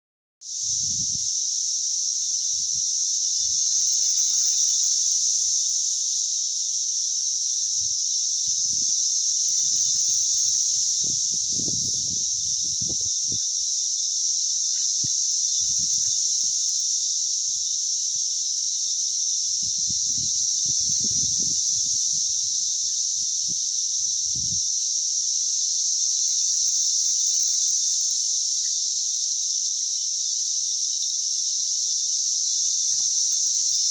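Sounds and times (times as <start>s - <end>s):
cicadas buzzing: 0.4s - 33.9s.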